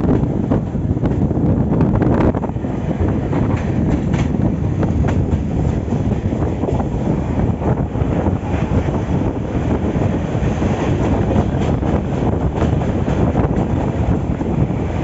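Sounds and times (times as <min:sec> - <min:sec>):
train rumbling: 0:00.0 - 0:15.0
wind buffeting microphone: 0:00.0 - 0:15.0.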